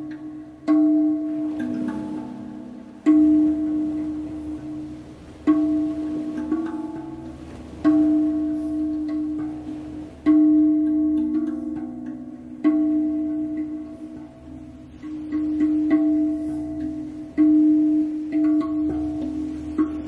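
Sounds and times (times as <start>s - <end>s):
faint low hum: 0.0s - 20.0s
steel tongue drum notes: 0.0s - 20.0s.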